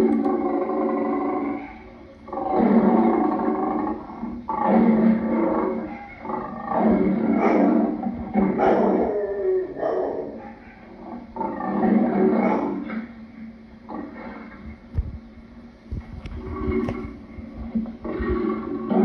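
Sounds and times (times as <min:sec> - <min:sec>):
lion roaring: 0:00.0 - 0:14.8, 0:16.3 - 0:19.0.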